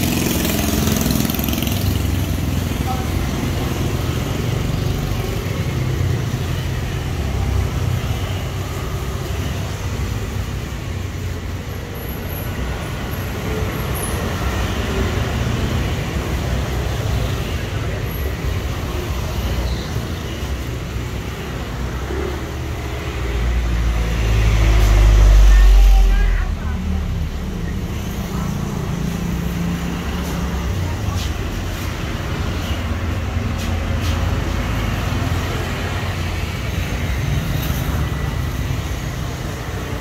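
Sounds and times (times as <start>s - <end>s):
street traffic: 0.0s - 40.0s.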